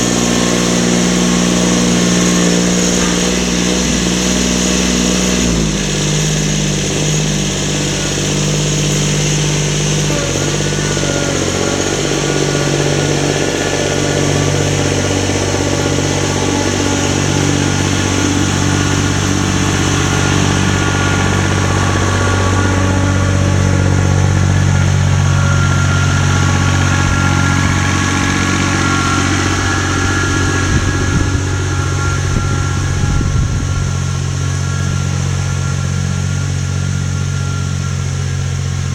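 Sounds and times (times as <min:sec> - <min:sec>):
motor running loudly: 0:00.0 - 0:38.9.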